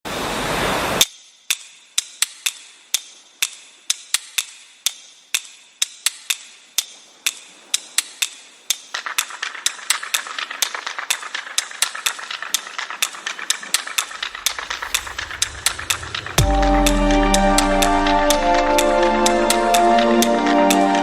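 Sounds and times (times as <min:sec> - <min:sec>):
steady hiss: 0:00.1 - 0:21.0.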